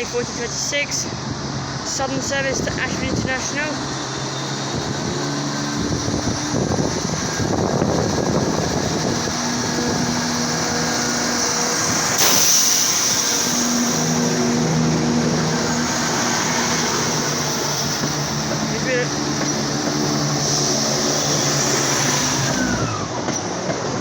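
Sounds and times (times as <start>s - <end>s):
diesel train engines droning: 0.0s - 24.0s
rush of noise: 0.0s - 24.0s.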